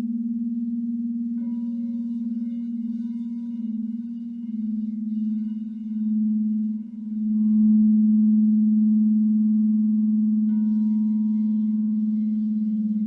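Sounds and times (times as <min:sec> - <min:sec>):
low singing bowl tone: 0:00.0 - 0:13.0
singing bowl struck: 0:01.2 - 0:13.0.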